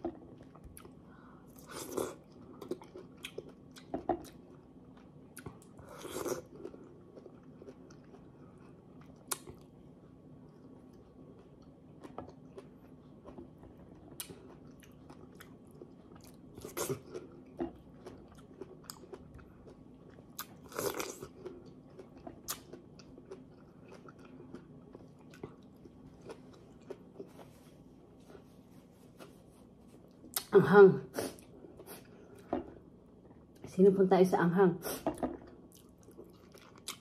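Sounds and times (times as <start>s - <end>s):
person chewing: 0.0s - 9.8s, 10.4s - 30.5s, 35.0s - 37.0s.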